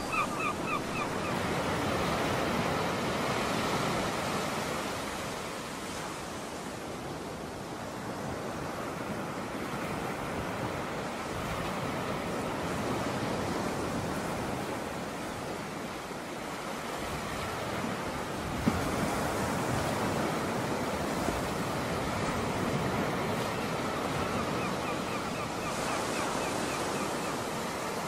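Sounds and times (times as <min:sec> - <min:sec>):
ocean waves: 0:00.0 - 0:28.0
wind: 0:00.0 - 0:28.0.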